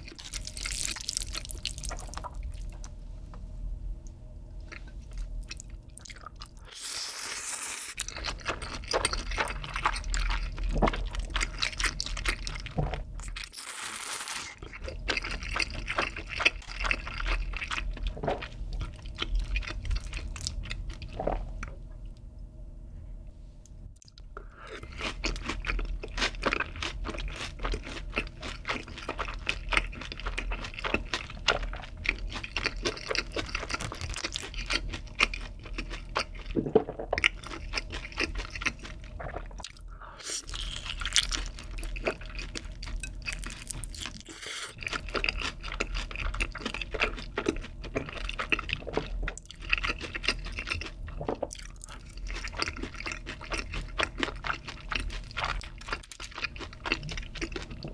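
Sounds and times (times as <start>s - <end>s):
chewing crunchy fried chicken: 0.0s - 3.0s, 4.6s - 21.7s, 24.0s - 57.9s.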